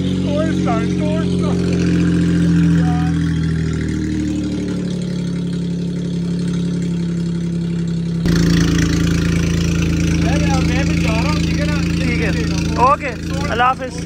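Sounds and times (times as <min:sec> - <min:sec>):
van engine idling: 0:00.0 - 0:14.0.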